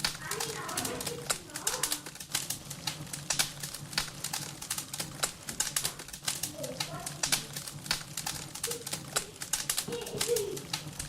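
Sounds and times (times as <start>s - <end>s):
rapid irregular clicks and knocks: 0.0s - 11.0s.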